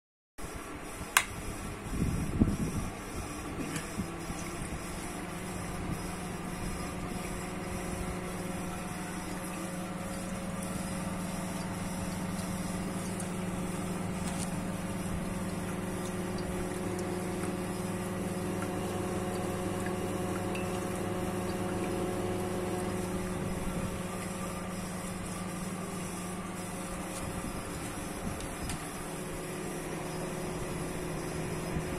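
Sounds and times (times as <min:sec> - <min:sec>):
incubator fan humming: 0:00.4 - 0:31.9.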